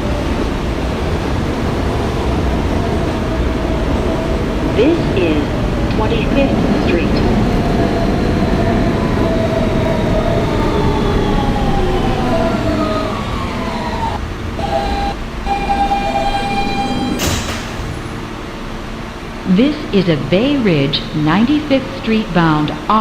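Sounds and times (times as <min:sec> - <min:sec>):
subway train motor whining: 0:00.0 - 0:23.0.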